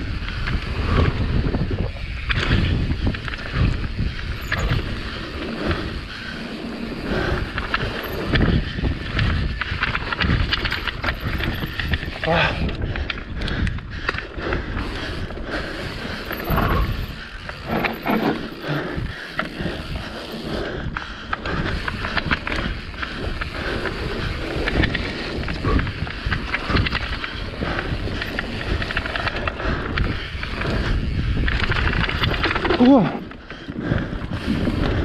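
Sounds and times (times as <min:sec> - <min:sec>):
bike rattling and knocking: 0:00.0 - 0:35.0
bike tyres rolling over gravel: 0:00.0 - 0:35.0.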